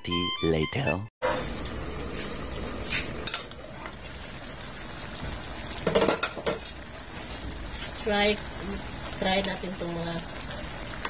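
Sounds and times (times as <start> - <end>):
stew simmering and sizzling: 1.2 - 11.0.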